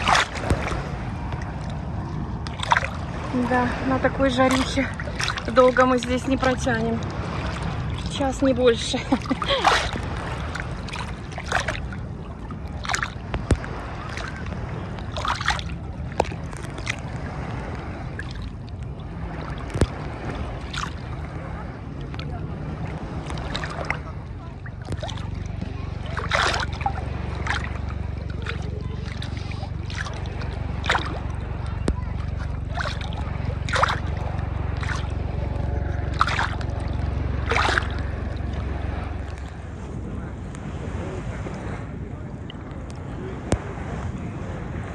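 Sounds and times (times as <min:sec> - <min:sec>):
short sharp splashes: 0:00.0 - 0:39.9
sea water lapping against phone: 0:00.0 - 0:44.9
steady low rumble: 0:00.0 - 0:44.9.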